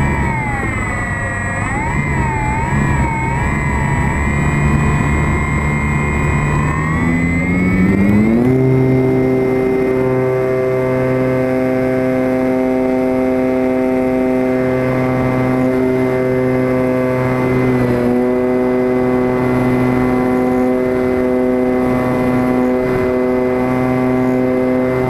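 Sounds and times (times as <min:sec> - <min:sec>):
electric motor and propeller whining: 0:00.0 - 0:25.0.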